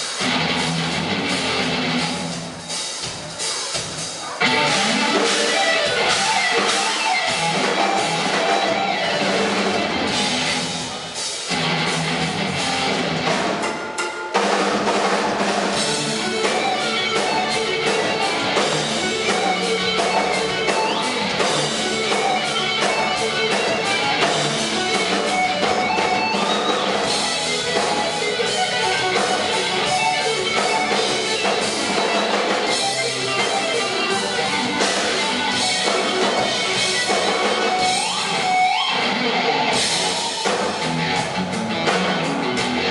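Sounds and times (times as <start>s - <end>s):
rock band playing metal: 0.0s - 42.9s.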